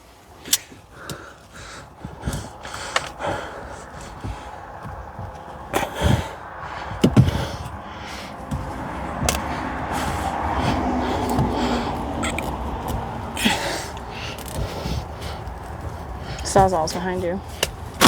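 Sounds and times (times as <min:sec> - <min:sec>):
knocks and thumps: 0:01.1 - 0:18.0.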